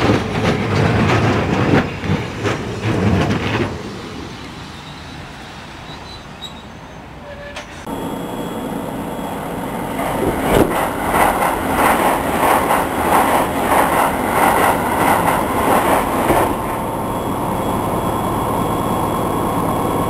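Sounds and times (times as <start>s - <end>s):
train passing with wheel clatter: 0.0s - 20.0s.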